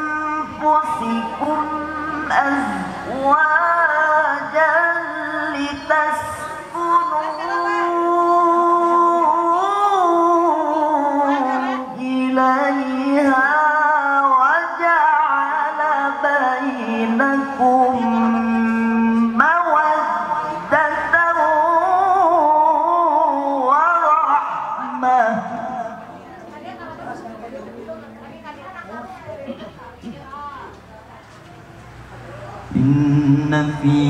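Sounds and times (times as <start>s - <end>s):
man chanting through a microphone: 0.0s - 26.3s, 32.3s - 34.0s.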